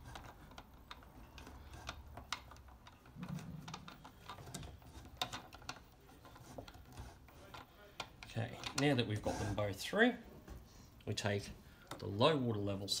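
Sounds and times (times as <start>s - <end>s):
cable clicks and rustles: 0.0s - 13.0s.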